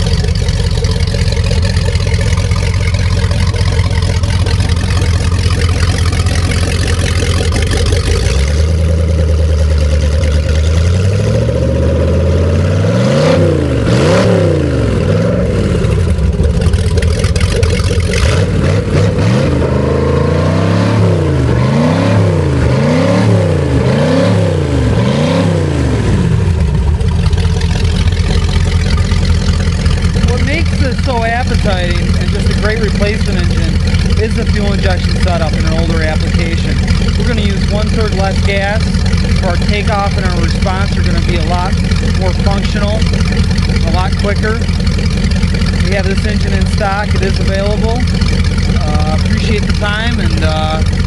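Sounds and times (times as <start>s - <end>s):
engine idling and revving: 0.0s - 51.0s
exhaust spraying into water: 0.0s - 51.0s.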